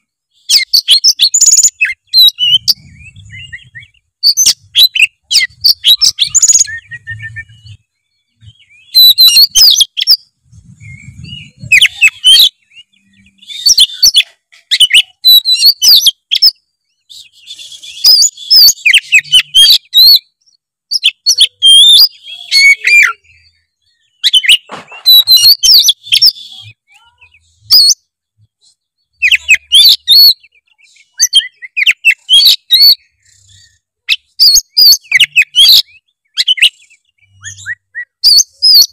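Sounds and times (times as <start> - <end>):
songbird singing varied phrases: 0.0 - 38.9.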